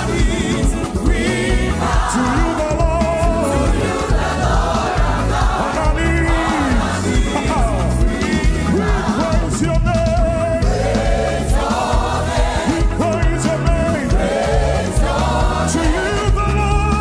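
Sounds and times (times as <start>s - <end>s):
band with heavy bass line: 0.0s - 17.0s
choir singing gospel music: 0.0s - 17.0s.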